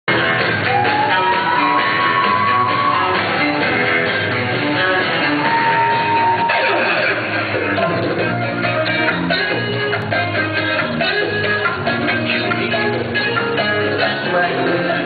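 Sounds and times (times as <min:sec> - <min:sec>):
bachata music with guitar: 0:00.1 - 0:15.0.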